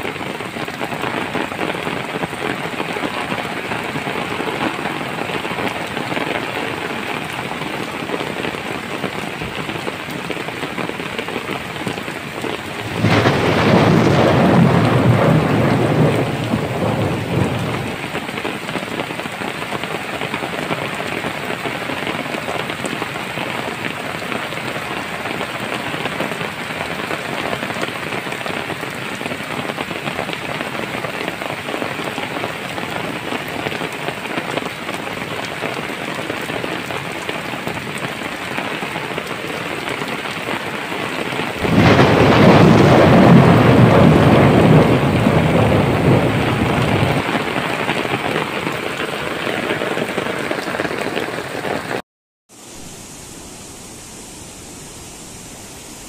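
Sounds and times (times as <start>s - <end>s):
stream rushing: 0.0s - 16.1s, 16.8s - 56.0s.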